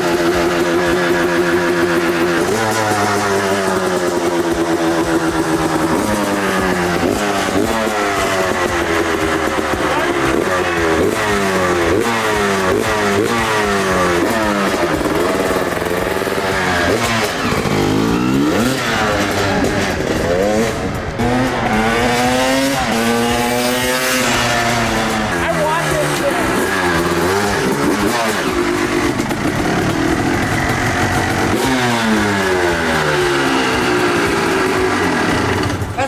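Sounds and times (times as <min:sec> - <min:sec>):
two-stroke engine revving: 0:00.0 - 0:36.0.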